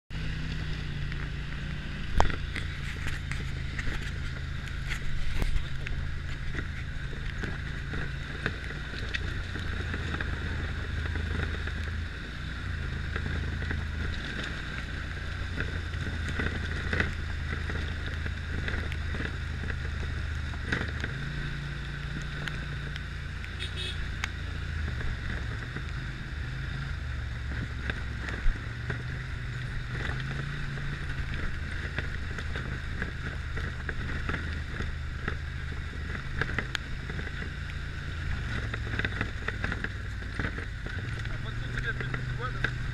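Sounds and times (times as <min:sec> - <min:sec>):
utility vehicle engine running: 0:00.0 - 0:42.9.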